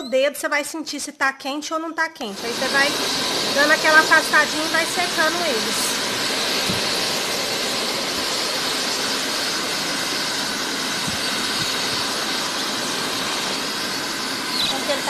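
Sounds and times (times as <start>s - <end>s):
hair dryer running: 2.3s - 15.0s.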